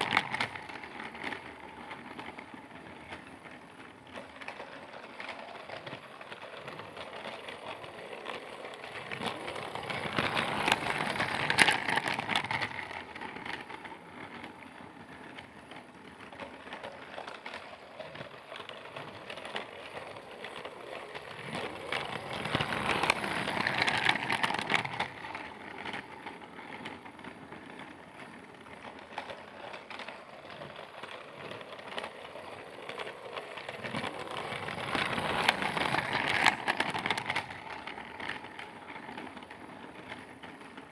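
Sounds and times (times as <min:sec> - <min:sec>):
toy train rattling past: 0:00.0 - 0:40.9.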